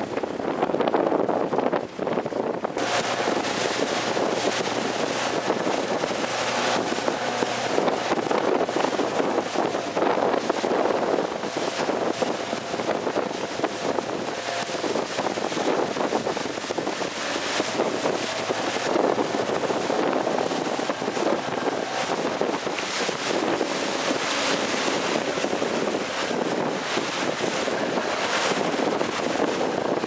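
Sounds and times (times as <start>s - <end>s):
choppy water and spray: 0.0s - 30.0s
wind buffeting microphone: 0.0s - 30.0s.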